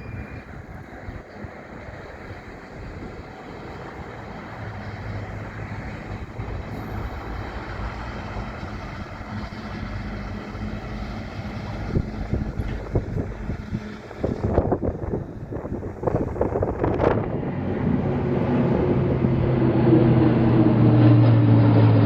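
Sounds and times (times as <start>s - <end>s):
train engine humming: 0.0s - 22.0s.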